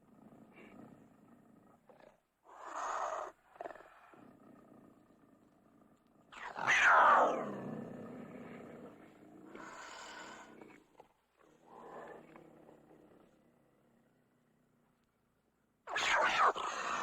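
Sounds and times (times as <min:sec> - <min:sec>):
cougar snarling: 0:00.0 - 0:14.1, 0:15.9 - 0:17.0.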